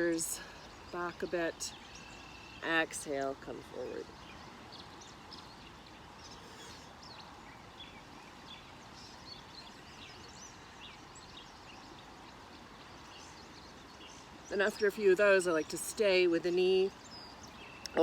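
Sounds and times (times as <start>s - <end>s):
birds chirping and calling: 3.6s - 18.0s.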